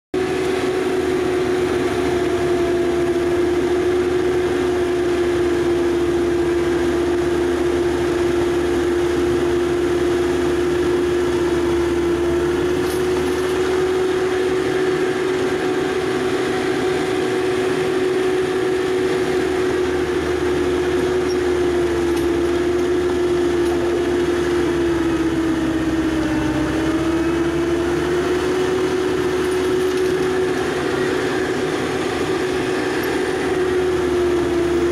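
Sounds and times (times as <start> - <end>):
snowblower machine drone: 0.2 - 34.9.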